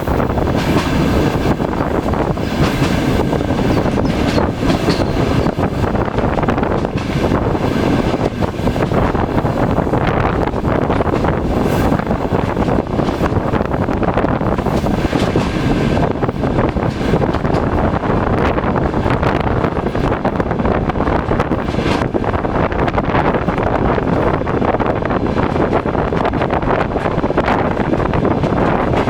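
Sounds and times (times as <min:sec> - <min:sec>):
diesel locomotive engine rumble: 0:00.0 - 0:29.0
wind buffeting microphone: 0:00.0 - 0:29.0.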